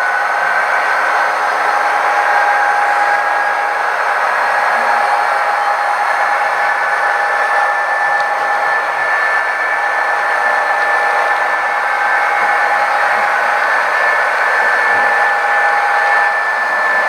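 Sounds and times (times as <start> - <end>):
model train motor whine: 0.0 - 17.0.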